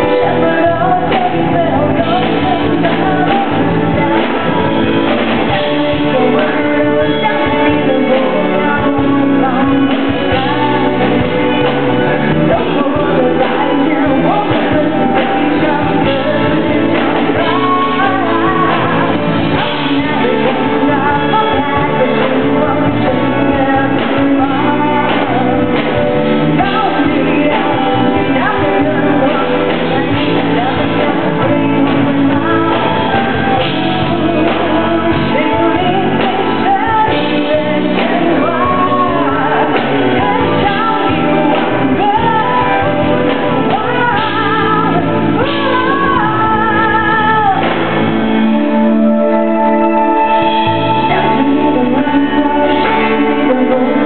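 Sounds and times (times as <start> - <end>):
loud music: 0.0 - 54.0
person singing live: 0.0 - 54.0.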